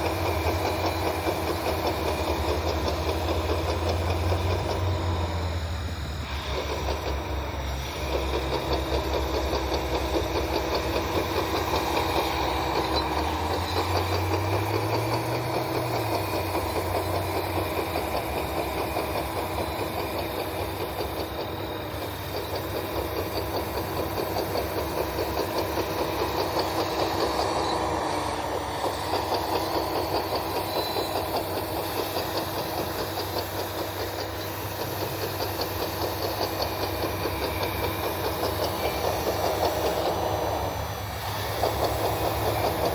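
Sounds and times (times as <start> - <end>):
low engine drone: 0.0 - 42.9
toy bulldozer tracks clattering: 0.0 - 42.9.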